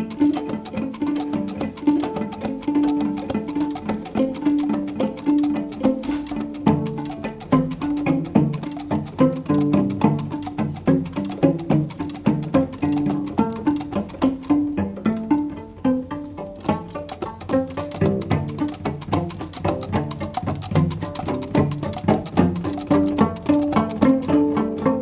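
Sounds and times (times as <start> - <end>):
plucked string notes: 0.0 - 25.0.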